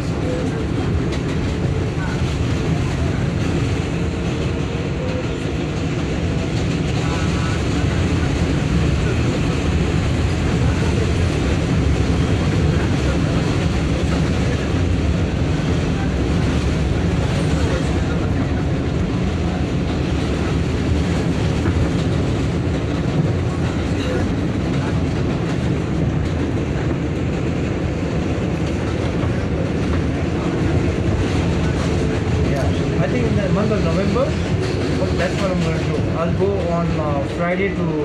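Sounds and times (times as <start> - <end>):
subway car rattle: 0.0 - 38.0
subway wheels on track: 0.0 - 38.0.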